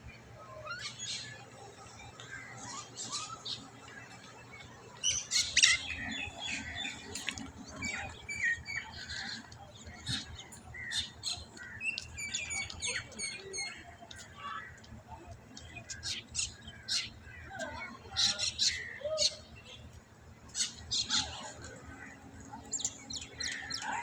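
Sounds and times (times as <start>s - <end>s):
birds chirping and squawking: 0.2s - 14.0s, 15.7s - 19.8s, 20.5s - 24.0s.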